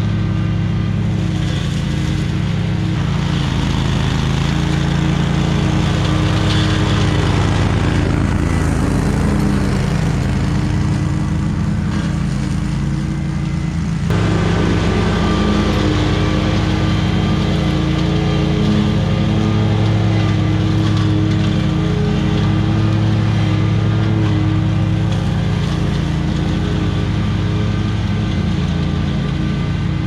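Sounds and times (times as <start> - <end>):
small petrol engine cutting grass: 0.0 - 30.0.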